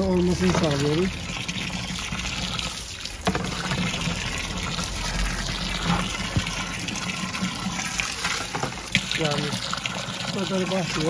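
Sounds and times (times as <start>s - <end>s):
hose water pouring into barrel: 0.0s - 11.0s.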